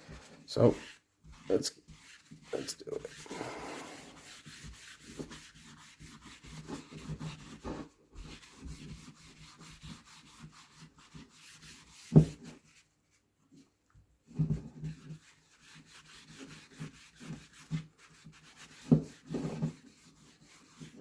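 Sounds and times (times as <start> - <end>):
paper towel rubbing wood: 0.3 - 12.9, 14.8 - 21.0.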